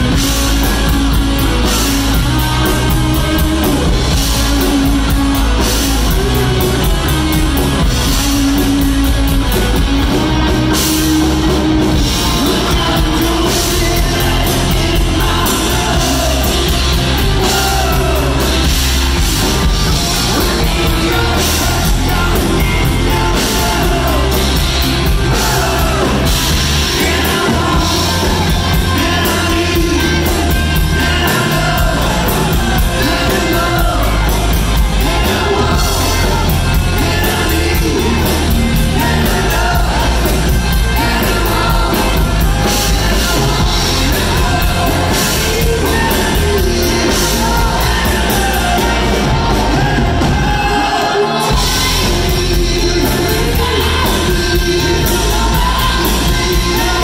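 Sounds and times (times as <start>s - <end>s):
lead vocals singing: 0.0s - 57.0s
live rock band: 0.0s - 57.0s.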